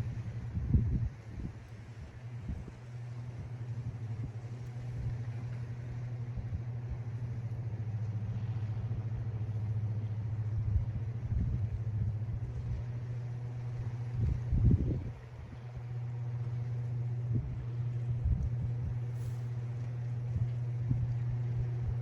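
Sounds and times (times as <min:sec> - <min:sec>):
wind and surf rumble: 0:00.0 - 0:22.0
wind buffeting microphone: 0:00.0 - 0:22.0.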